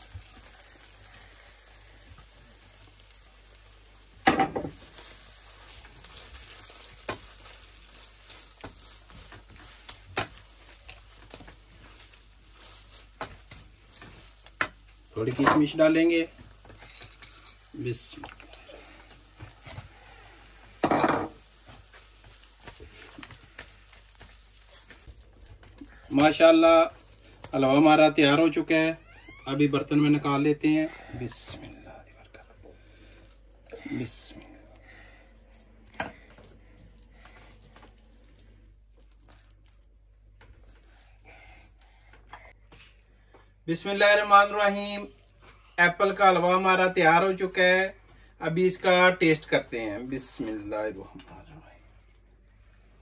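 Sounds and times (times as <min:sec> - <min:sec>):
soft squishing: 0:04.8 - 0:20.8, 0:21.4 - 0:43.8, 0:48.6 - 0:53.0.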